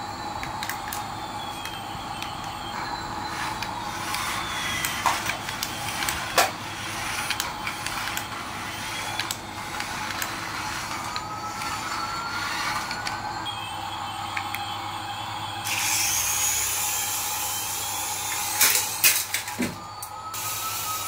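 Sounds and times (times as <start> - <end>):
toy motor and wheels whirring: 0.0 - 14.8, 15.5 - 21.0
faint whine: 0.0 - 21.0.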